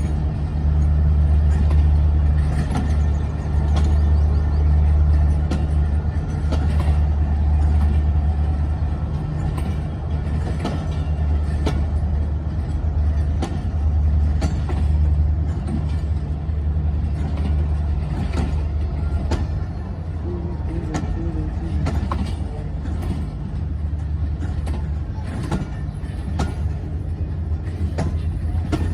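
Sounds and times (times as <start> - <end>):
diesel engine drone: 0.0 - 28.9
train clicks and clanks: 0.0 - 28.9.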